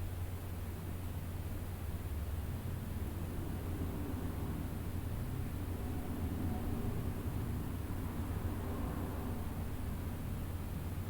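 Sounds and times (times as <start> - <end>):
constant low rumble: 0.0 - 11.0
white noise hiss: 0.0 - 11.0.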